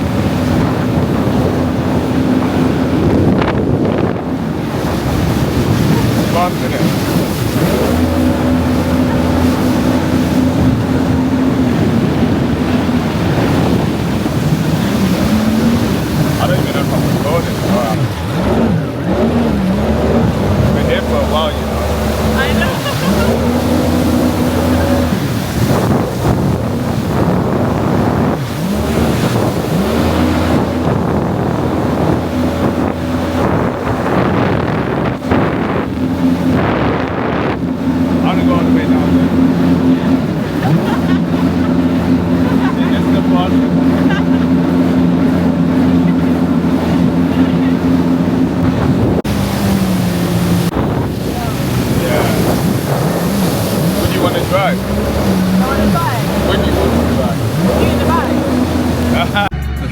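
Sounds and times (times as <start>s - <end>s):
wind buffeting microphone: 0.0s - 59.6s
jet ski engine: 0.0s - 59.9s
rushing water: 0.0s - 59.9s.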